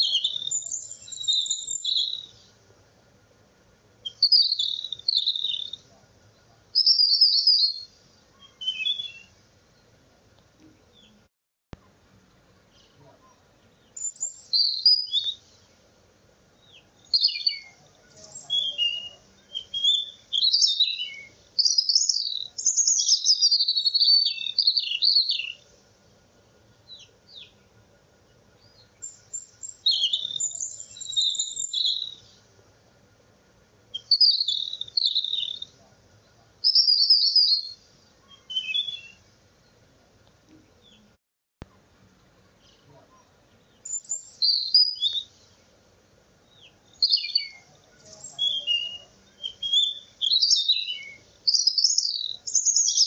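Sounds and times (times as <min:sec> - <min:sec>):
songbirds chirping and trilling: 0:00.0 - 0:41.2, 0:42.0 - 0:53.0.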